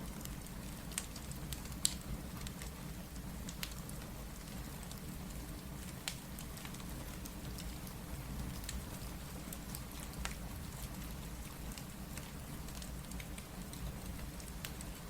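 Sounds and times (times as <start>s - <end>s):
fireplace crackling and popping: 0.0s - 15.0s
steady rain: 0.0s - 15.0s.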